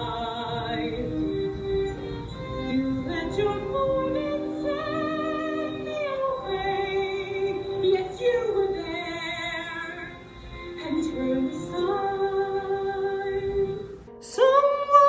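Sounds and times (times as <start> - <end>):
instrumental accompaniment: 0.0 - 14.8
woman singing with vibrato: 0.0 - 15.0.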